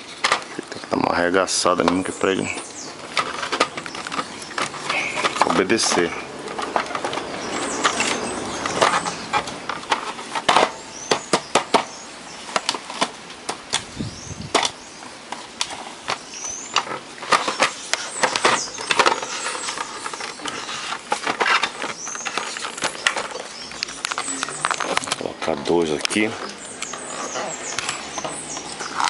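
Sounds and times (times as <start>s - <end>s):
plastic scraping: 0.0s - 29.0s.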